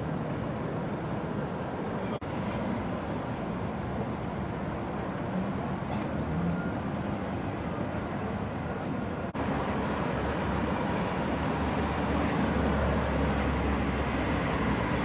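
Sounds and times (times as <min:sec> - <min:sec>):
cars passing slowly: 0:00.0 - 0:15.0.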